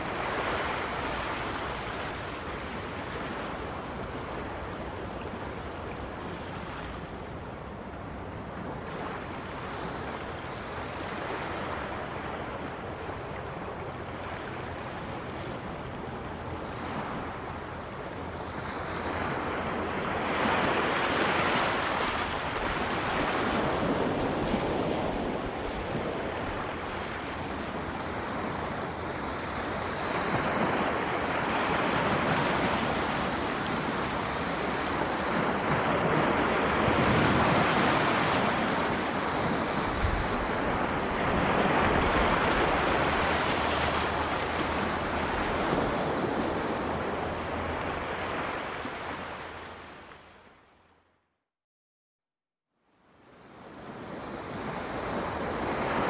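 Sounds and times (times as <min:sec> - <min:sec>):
sea waves breaking: 0:00.0 - 0:50.4.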